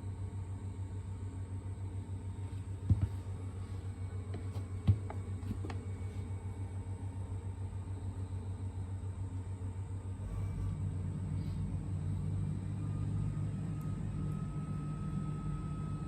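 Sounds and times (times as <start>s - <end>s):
low mechanical rumble: 0.0s - 16.0s
faint thin whine: 2.2s - 16.0s.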